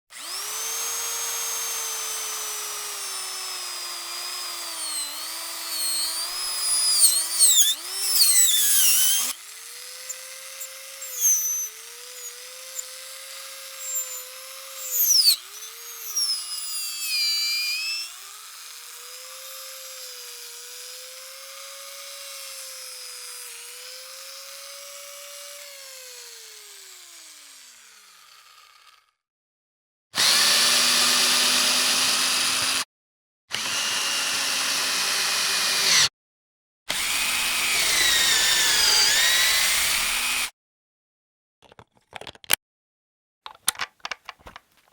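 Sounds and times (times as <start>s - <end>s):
power drill motor whine: 0.2s - 29.1s, 30.2s - 32.8s, 33.5s - 36.1s, 36.9s - 40.5s.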